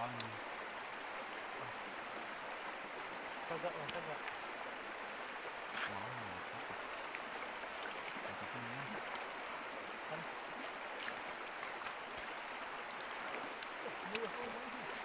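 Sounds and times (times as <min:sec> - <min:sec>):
stream flowing over stones: 0:00.0 - 0:15.0.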